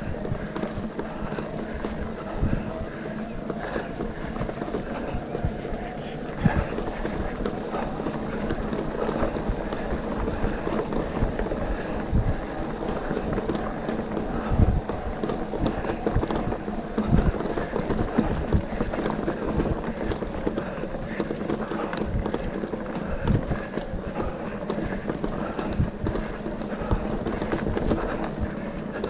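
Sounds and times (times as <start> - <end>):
bike knocking and rattling: 0.0 - 29.0
bike tyres rumbling on dirt: 0.0 - 29.0
wind buffeting microphone: 0.0 - 29.0.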